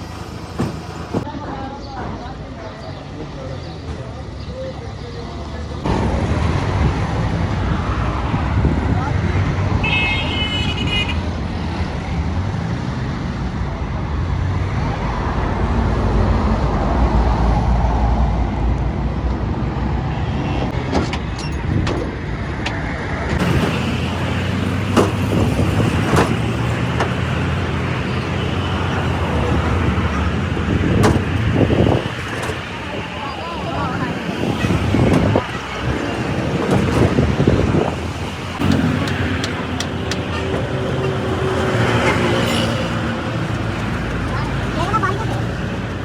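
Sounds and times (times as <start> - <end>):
vehicles passing: 0.0 - 46.0.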